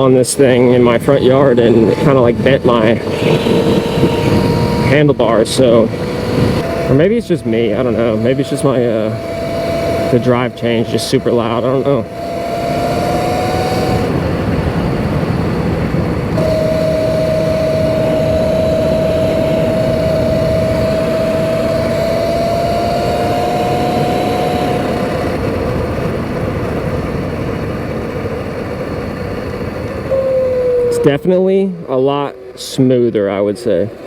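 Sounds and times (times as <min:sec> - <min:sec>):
electric motor whine: 0:00.0 - 0:34.0
wind and drive chain rushing: 0:00.0 - 0:34.0.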